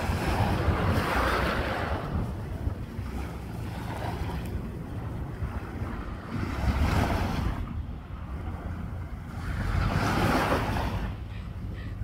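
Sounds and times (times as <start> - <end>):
small waves washing on sand: 0.0 - 11.2
wind rumbling on microphone: 0.0 - 12.0.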